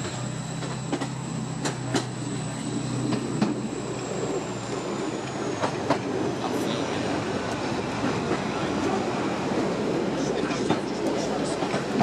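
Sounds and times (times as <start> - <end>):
train wheels clicking on rail joints: 0.0 - 3.8, 4.6 - 6.2, 7.0 - 12.0
train low hum: 0.0 - 12.0.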